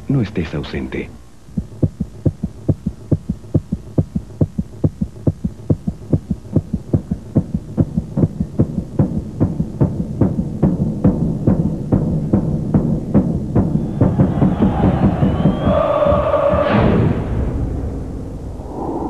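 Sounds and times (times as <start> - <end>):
heartbeat thumps: 1.4 - 16.8.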